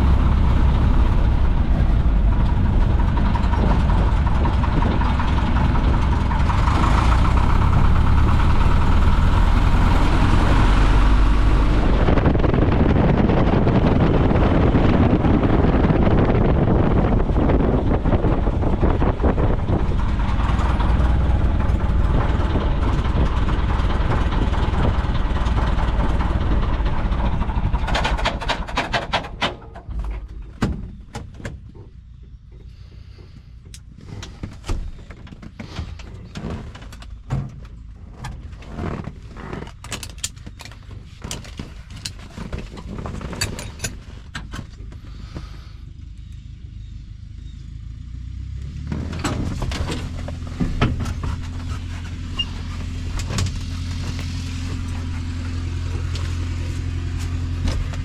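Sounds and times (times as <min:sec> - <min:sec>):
airplane engine running: 0:00.0 - 0:37.1, 0:38.8 - 0:46.4, 0:48.9 - 0:58.0.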